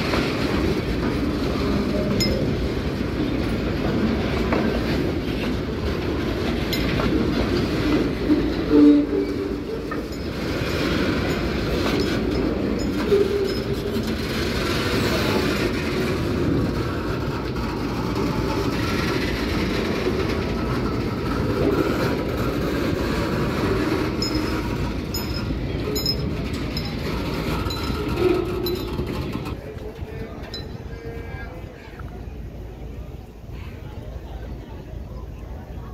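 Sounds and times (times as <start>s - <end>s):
train wheels rumbling and rattling: 0.0s - 35.9s.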